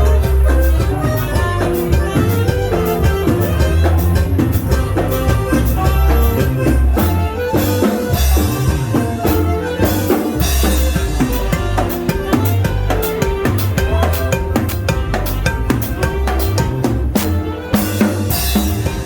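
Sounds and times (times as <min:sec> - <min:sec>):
dance music with drums and bass: 0:00.0 - 0:19.0.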